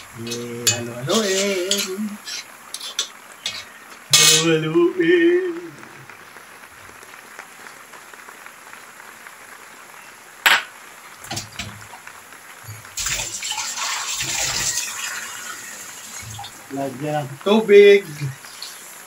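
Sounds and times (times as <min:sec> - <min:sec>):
meat cooking in a pan: 0:00.0 - 0:19.0
water running and splashing: 0:00.0 - 0:19.0.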